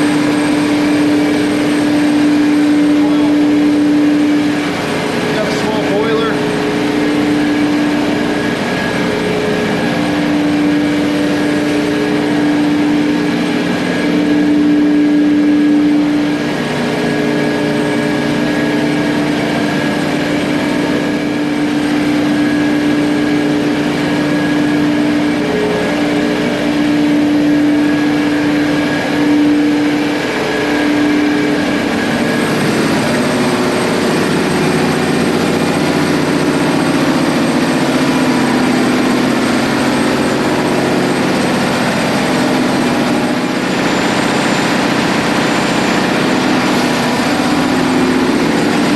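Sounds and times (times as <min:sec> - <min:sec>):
ship machinery hum: 0:00.0 - 0:48.9.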